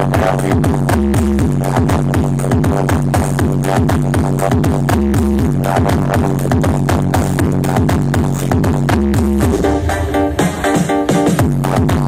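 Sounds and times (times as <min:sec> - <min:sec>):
loud electronic dance music: 0:00.0 - 0:12.0.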